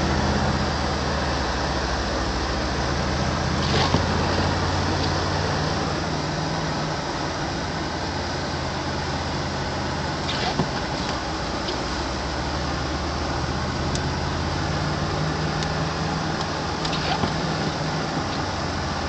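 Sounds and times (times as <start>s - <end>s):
car engine running: 0.0s - 19.0s
defroster fan blowing: 0.0s - 19.0s.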